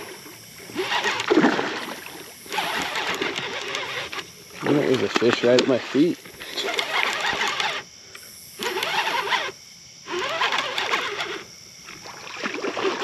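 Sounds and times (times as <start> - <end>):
fishing reel whirring: 0.0 - 13.0.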